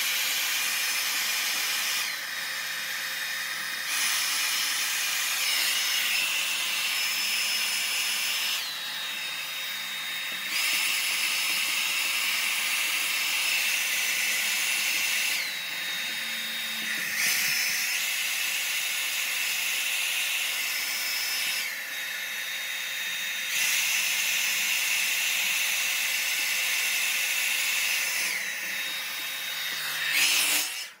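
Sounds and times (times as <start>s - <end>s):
hair dryer blowing: 0.0s - 31.0s.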